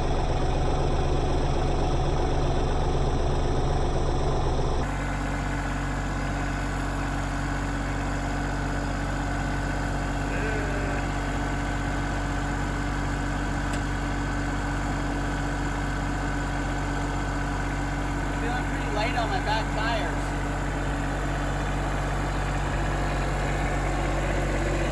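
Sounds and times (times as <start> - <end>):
tractor diesel engine humming: 0.0 - 24.9.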